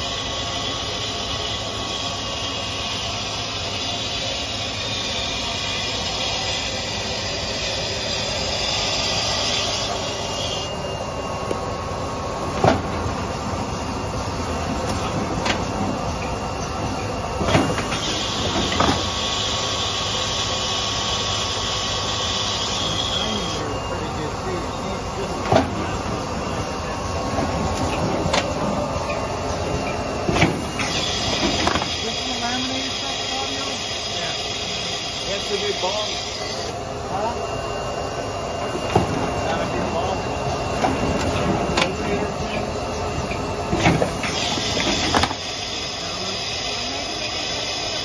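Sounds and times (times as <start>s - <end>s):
machinery clatter and hiss: 0.0s - 36.8s, 38.5s - 48.0s
factory noise: 0.0s - 48.0s.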